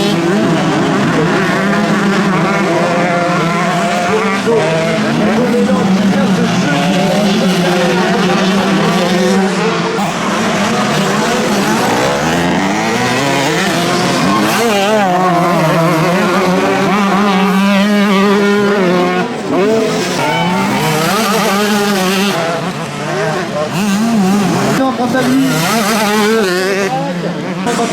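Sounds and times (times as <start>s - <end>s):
motocross motorcycles revving: 0.0s - 27.9s.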